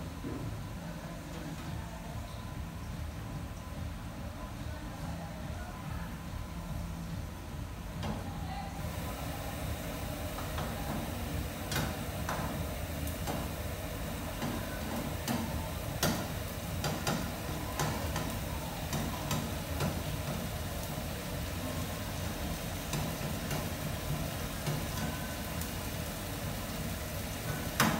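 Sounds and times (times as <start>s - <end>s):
kitchen hiss and hum: 0.0s - 27.9s.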